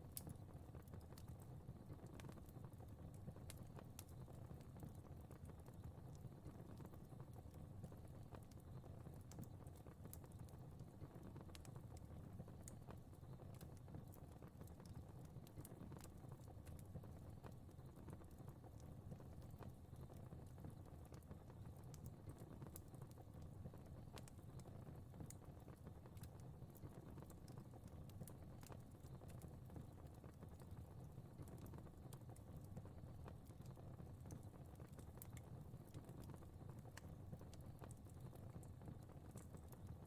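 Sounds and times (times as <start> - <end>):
faint fire crackling: 0.0 - 40.0.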